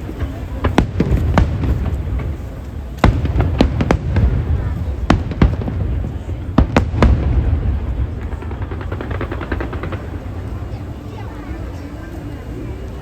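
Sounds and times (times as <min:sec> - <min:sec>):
fireworks bangs: 0:00.0 - 0:12.9.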